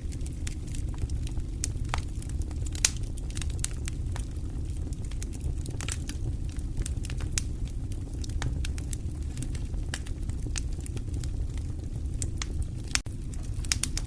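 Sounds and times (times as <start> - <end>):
fire crackling and popping: 0.0 - 14.0
fire rumbling: 0.0 - 14.0.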